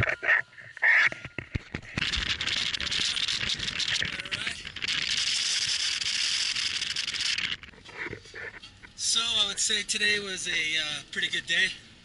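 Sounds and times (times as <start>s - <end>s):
crackling microphone hiss: 0.0s - 12.0s.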